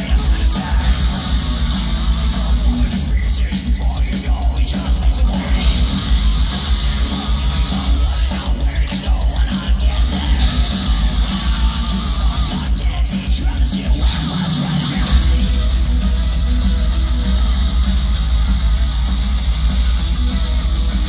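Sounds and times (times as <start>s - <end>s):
distorted electric guitars: 0.0s - 21.0s
live metal band playing: 0.0s - 21.0s
rapid bass drum: 0.0s - 21.0s.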